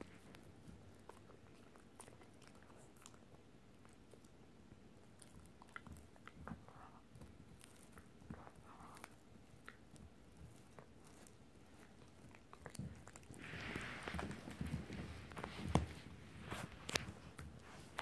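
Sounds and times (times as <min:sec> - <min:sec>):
dog chewing a bone: 0:00.0 - 0:18.0.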